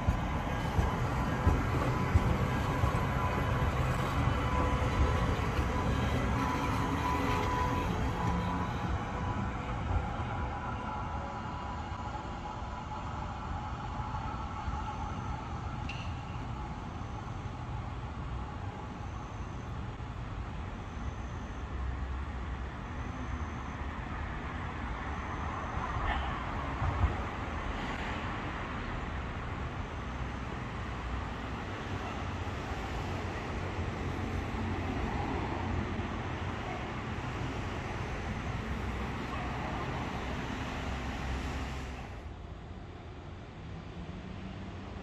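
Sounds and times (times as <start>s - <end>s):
electric tram rolling on track: 0.0s - 45.0s
traffic noise: 0.0s - 45.0s.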